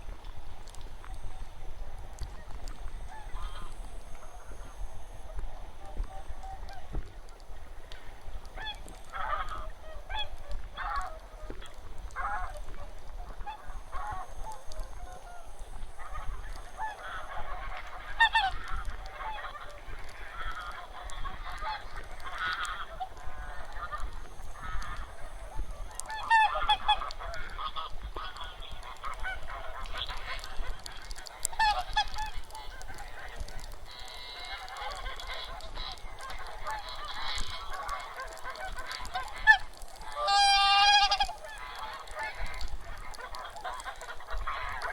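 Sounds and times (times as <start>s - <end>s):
geese and swans honking: 0.1s - 44.9s.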